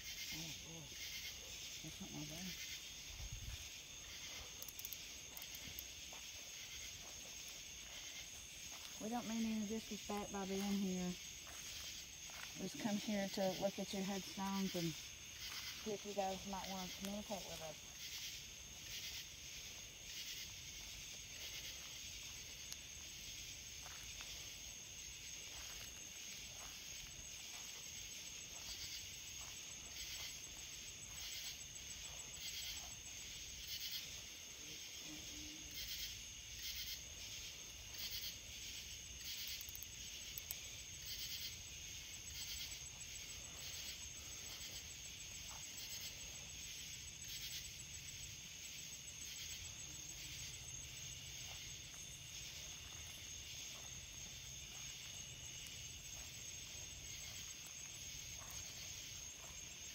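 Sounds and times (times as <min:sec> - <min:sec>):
crickets trilling: 0:00.0 - 0:59.9
insect chirps: 0:00.0 - 0:59.9.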